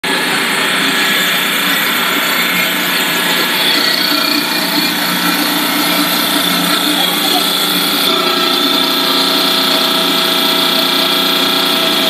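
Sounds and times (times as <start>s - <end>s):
machinery whine and hum: 0.0s - 12.0s
production line machine noise: 0.0s - 12.0s.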